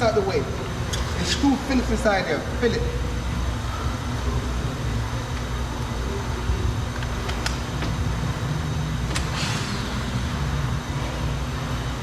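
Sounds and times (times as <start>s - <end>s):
faint hum: 0.0s - 12.0s
low background rumble: 0.0s - 12.0s.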